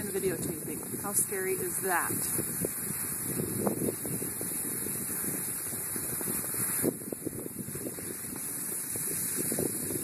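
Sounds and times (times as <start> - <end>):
skis scraping on snow: 0.0 - 10.0
wind rushing over microphone: 0.0 - 10.0.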